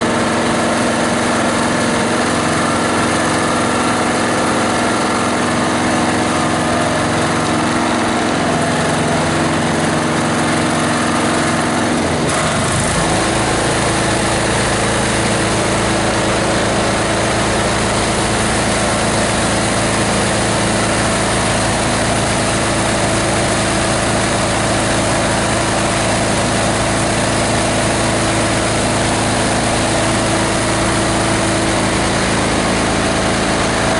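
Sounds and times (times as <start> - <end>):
diesel engine running grinder: 0.0 - 33.9.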